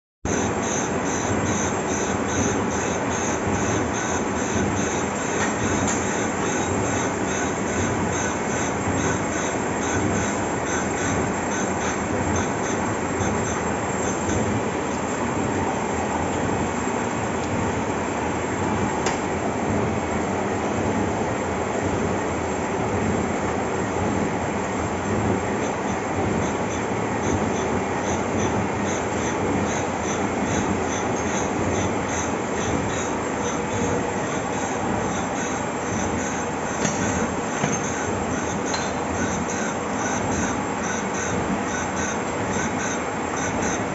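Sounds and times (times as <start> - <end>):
grinding machine running: 0.3 - 43.9.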